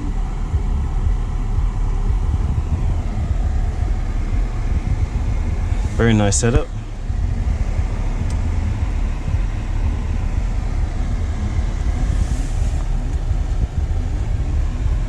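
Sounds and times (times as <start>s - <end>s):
car engine idling in cabin: 0.0s - 15.0s.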